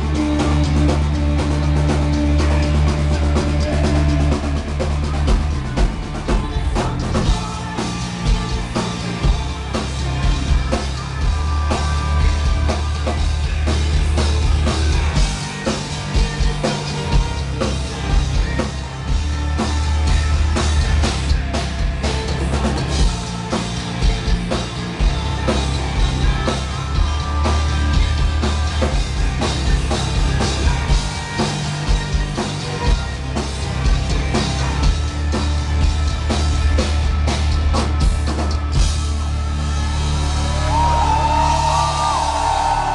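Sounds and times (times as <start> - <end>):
live metal band playing: 0.0 - 42.9
person singing: 0.0 - 42.9.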